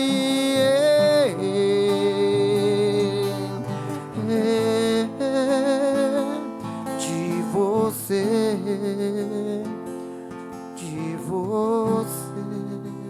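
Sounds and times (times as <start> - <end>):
person singing: 0.0 - 10.1, 10.7 - 13.0
plucked string accompaniment: 0.0 - 13.0.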